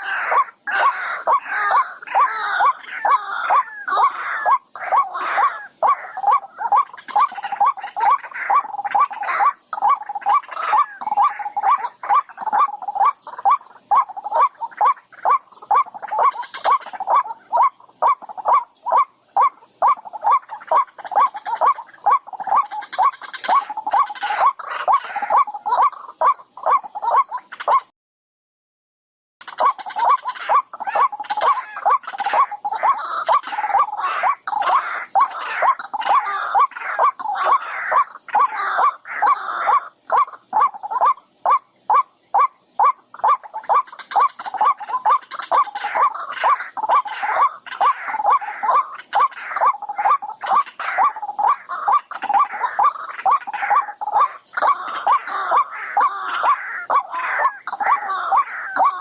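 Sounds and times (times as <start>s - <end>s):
animal cries: 0.0s - 27.9s, 29.4s - 59.0s.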